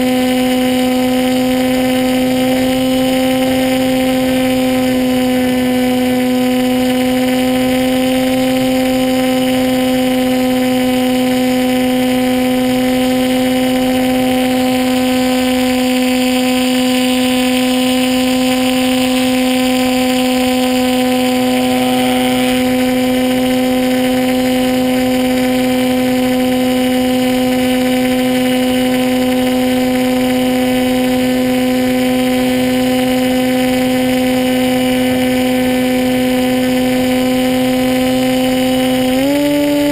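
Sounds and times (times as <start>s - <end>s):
model aircraft motor droning: 0.0s - 39.9s.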